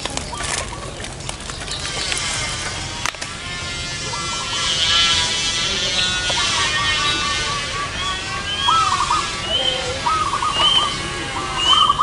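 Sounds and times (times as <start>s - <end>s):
dove cooing: 0.0s - 2.5s, 4.0s - 12.0s
birds warbling: 0.0s - 12.0s.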